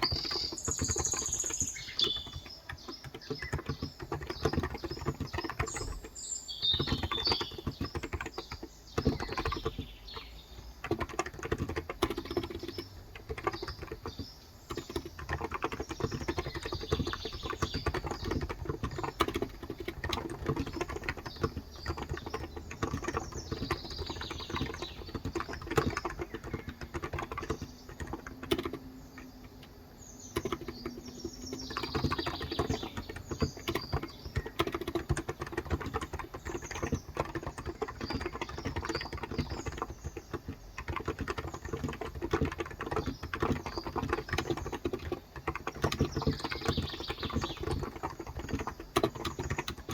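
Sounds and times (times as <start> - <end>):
soft keyboard typing: 0.0 - 49.9.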